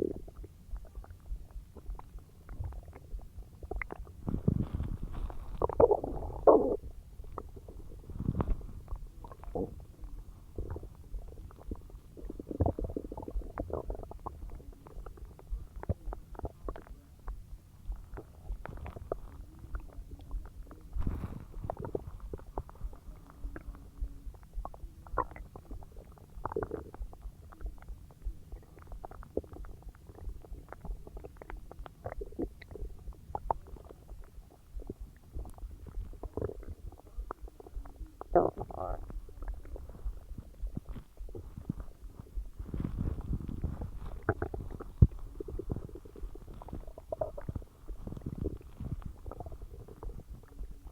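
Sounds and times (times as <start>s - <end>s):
stomach gurgling and rumbling: 0.0s - 50.9s.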